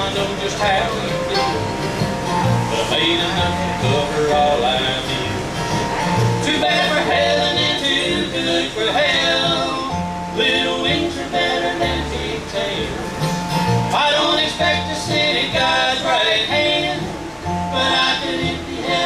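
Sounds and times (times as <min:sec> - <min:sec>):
acoustic guitar: 0:00.0 - 0:19.0
mandolin: 0:00.0 - 0:19.0
upright bass line: 0:00.0 - 0:19.0.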